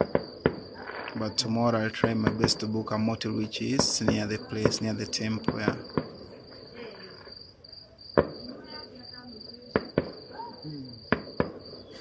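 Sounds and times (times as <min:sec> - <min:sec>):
distant firecracker bangs: 0:00.0 - 0:02.9, 0:03.7 - 0:07.4, 0:08.1 - 0:12.0
crickets chirping: 0:00.0 - 0:12.0.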